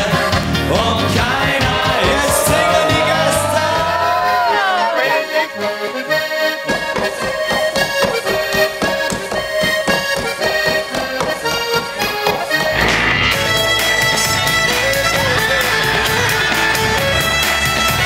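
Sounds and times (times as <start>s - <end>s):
accordion folk tune: 0.0s - 18.0s.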